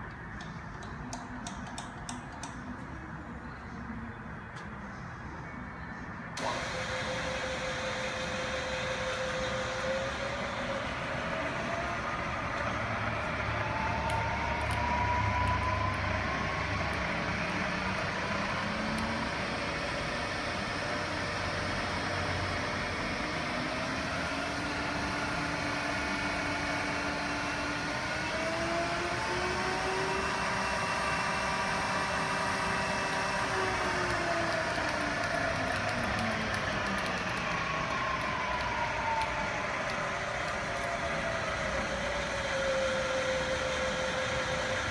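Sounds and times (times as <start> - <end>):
milling machine whine: 6.4 - 44.9.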